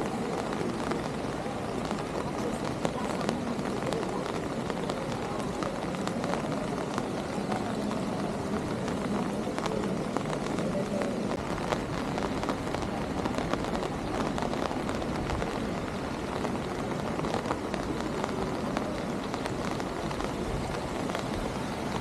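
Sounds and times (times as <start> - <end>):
rain on street: 0.0 - 22.0.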